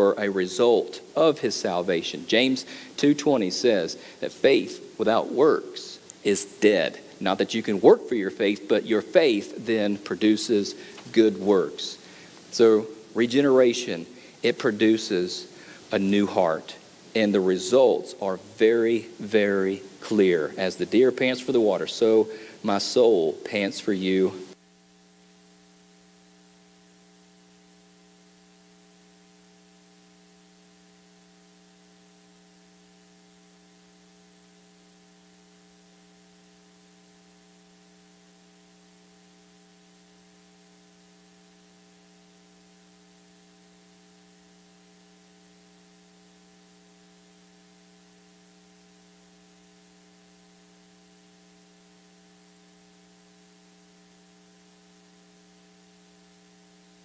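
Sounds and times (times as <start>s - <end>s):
electrical mains hum: 0.0s - 57.0s
light hiss: 0.1s - 57.0s.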